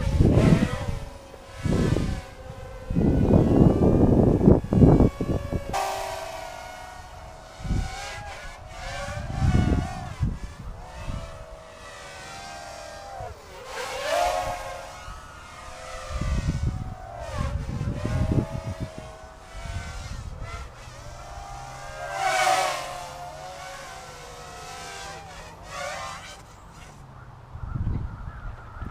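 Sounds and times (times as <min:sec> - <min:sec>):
drone motors whining: 0:00.0 - 0:28.9.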